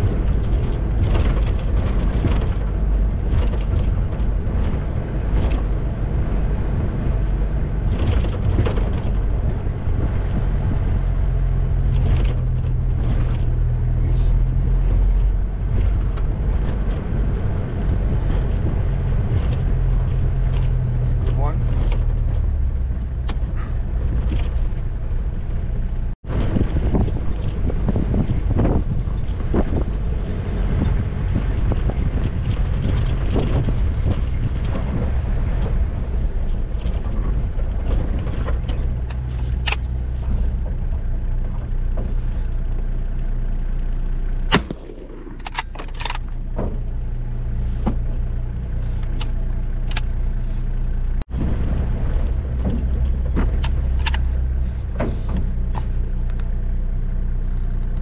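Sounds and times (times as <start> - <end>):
body and load clunking and rattling: 0.0 - 58.0
vehicle engine running: 0.0 - 58.0.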